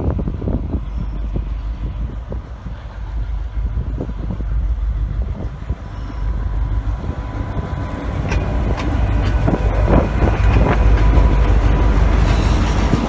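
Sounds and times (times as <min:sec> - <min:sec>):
locomotive engine rumble: 0:00.0 - 0:13.0
steady whine: 0:00.0 - 0:13.0.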